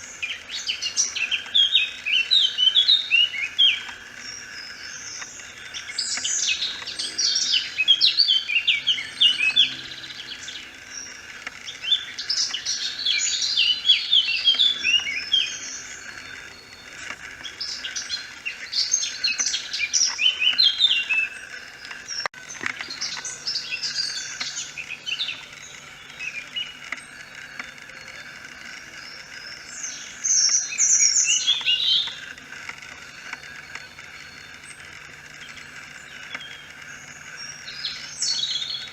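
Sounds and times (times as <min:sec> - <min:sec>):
faint background hum: 0:00.0 - 0:38.9
songbirds chirping: 0:00.0 - 0:38.9.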